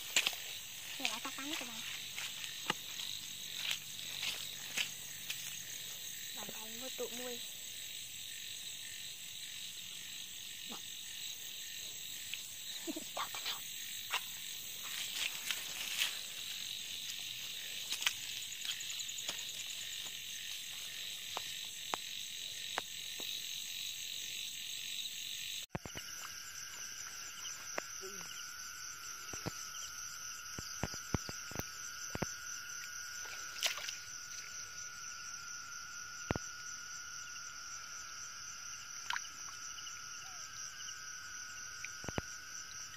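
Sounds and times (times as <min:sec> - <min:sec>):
frogs: 0:00.0 - 0:42.9
insect trilling: 0:00.0 - 0:42.9.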